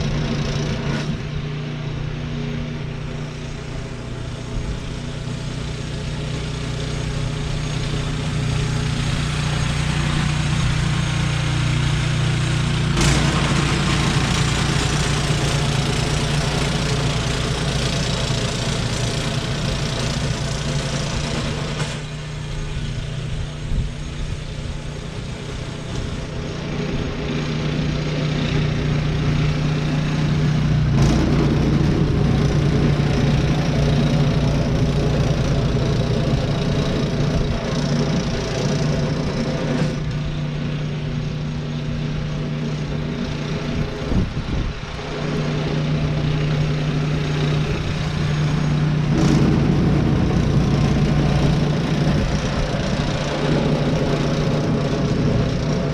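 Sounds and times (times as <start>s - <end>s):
road and cabin noise: 0.0s - 55.9s
vehicle engine hum: 0.0s - 55.9s.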